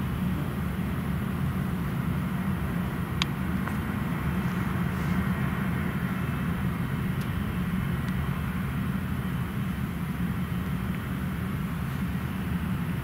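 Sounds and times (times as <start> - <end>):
jet engines at taxi power: 0.0 - 13.0.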